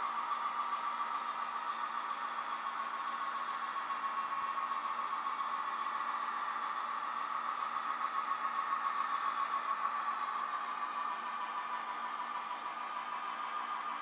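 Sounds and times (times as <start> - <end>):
simulated diesel engine drone: 0.0 - 14.0.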